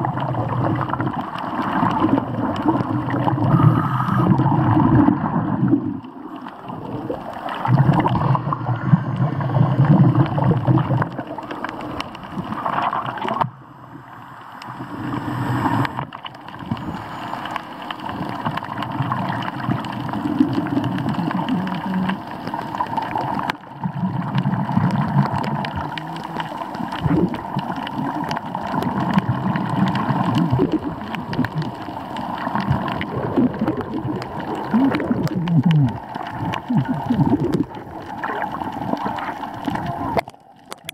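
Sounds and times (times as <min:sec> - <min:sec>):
underwater gurgling: 0:00.0 - 0:40.9.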